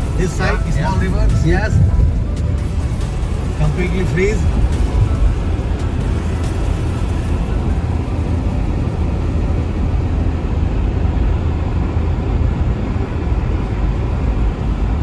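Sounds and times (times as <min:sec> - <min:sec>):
car engine: 0:00.0 - 0:15.0
tyre and road noise: 0:00.0 - 0:15.0.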